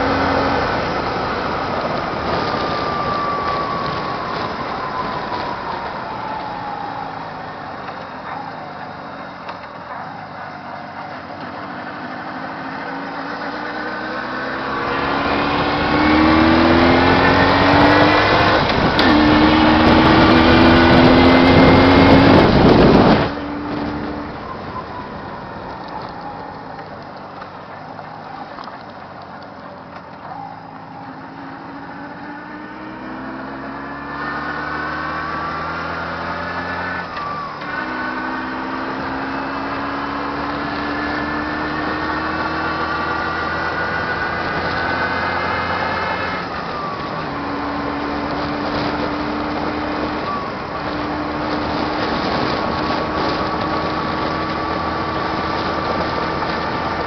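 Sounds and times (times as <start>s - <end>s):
wind noise: 0.0s - 9.3s, 13.4s - 29.5s, 31.0s - 57.0s
two-stroke motorcycle engine accelerating: 0.0s - 57.0s.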